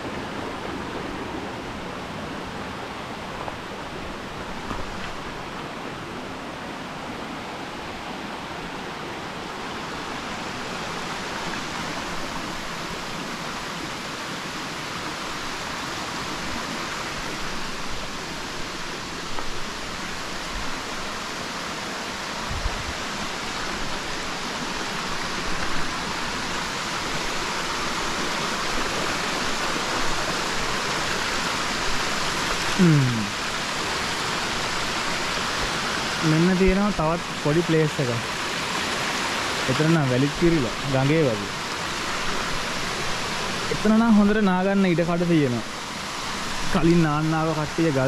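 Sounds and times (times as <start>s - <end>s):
water rushing over rocks: 0.0s - 48.0s.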